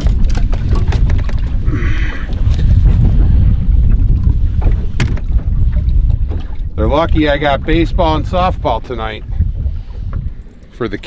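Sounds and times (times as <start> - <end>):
boat and water noise: 0.0 - 11.0
wind rumbling on microphone: 0.0 - 11.0.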